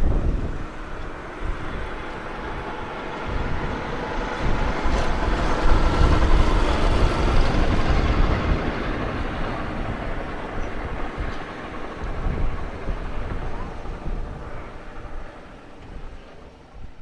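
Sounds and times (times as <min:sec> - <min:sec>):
aircraft flyby roar: 0:00.0 - 0:17.0.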